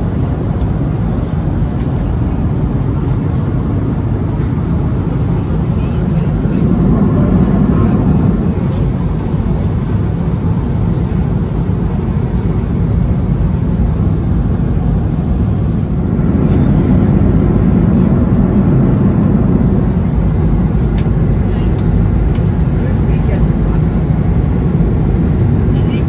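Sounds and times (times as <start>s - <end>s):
airplane cabin rumble: 0.0s - 26.0s
jet engines: 0.0s - 26.0s
rushing air: 0.0s - 26.0s.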